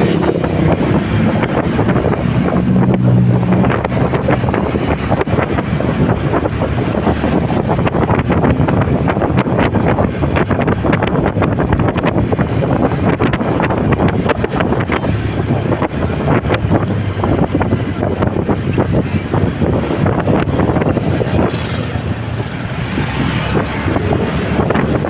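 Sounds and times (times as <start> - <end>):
motorcycle riding: 0.0 - 25.0
wind buffeting microphone: 0.0 - 25.0.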